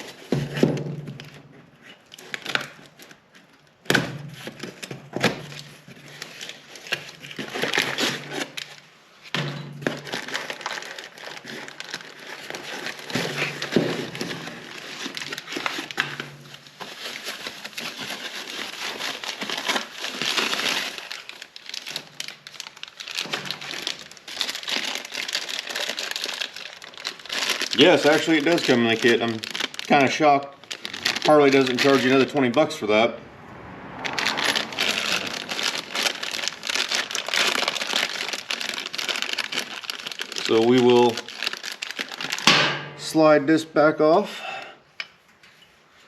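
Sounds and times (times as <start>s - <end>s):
plastic bags crinkling: 0.0s - 33.0s, 34.1s - 42.6s.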